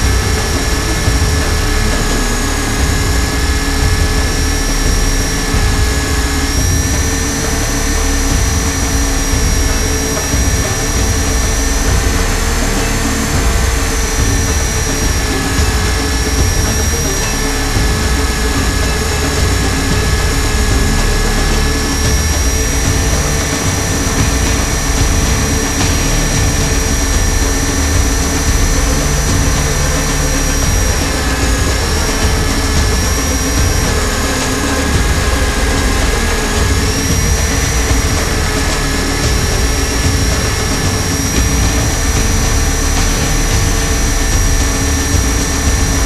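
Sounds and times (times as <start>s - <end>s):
electric motor high whine: 0.0s - 46.0s
rotor wash and wind rumble: 0.0s - 46.0s.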